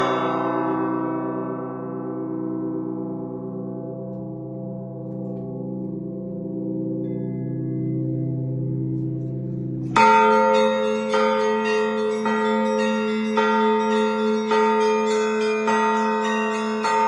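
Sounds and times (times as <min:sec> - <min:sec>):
deep church bell ringing: 0:00.0 - 0:17.0.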